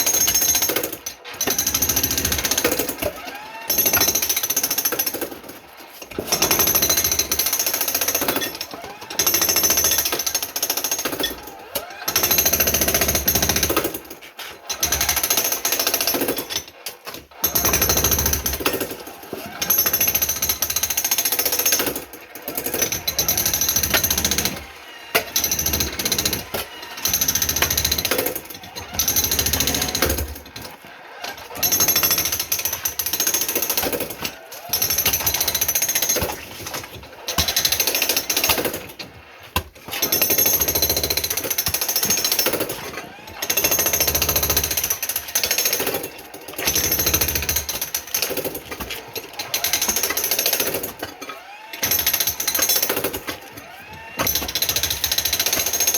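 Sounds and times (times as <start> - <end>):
jackhammer breaking concrete: 0.0 - 55.9.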